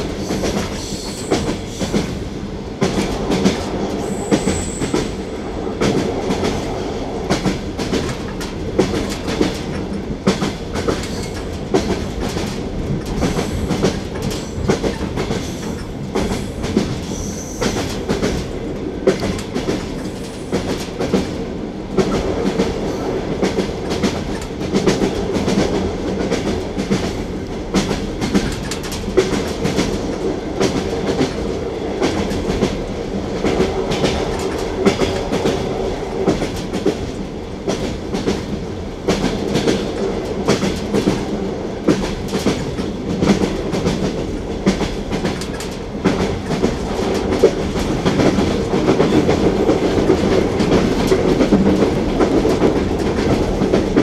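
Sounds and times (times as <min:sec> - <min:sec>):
train wheels clattering over rail joints: 0:05.8 - 0:54.0.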